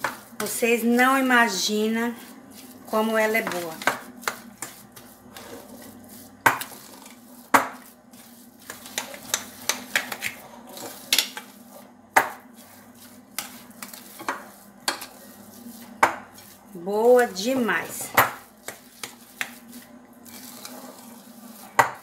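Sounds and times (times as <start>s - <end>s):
fork mashing potato: 0.0s - 22.0s.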